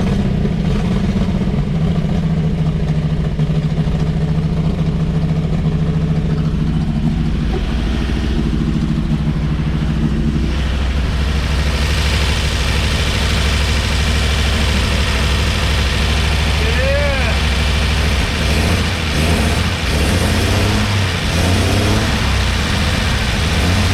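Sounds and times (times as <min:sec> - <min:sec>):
pickup truck engine idling: 0:00.0 - 0:23.9.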